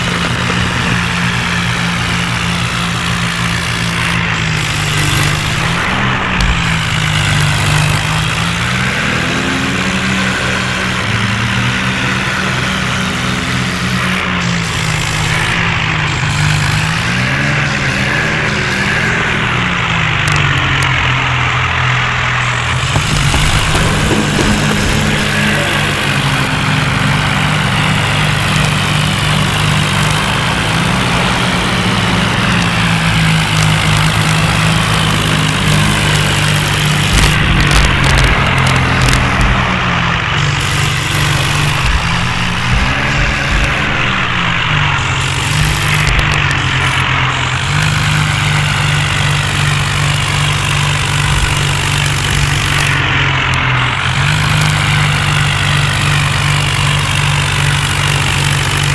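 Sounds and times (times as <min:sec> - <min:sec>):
tractor diesel engine straining: 0:00.0 - 0:58.9.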